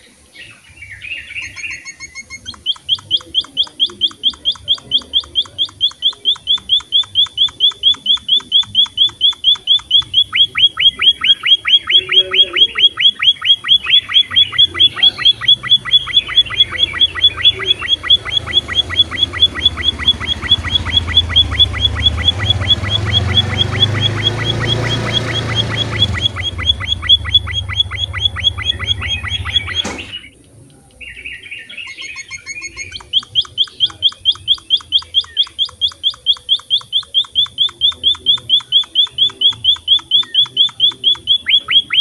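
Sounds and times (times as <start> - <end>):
finch chirping: 0.0 - 42.0.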